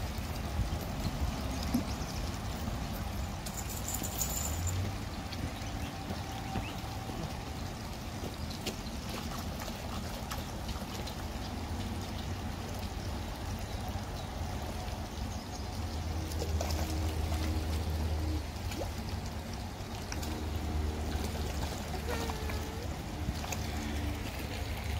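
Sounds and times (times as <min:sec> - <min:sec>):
creek trickling: 0:00.0 - 0:24.9
light splashing of swimming birds: 0:00.0 - 0:24.9.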